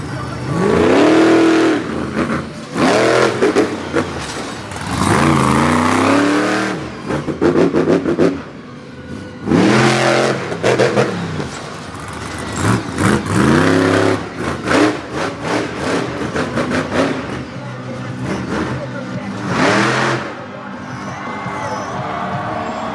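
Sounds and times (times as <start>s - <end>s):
monster truck engine revving: 0.0s - 22.9s.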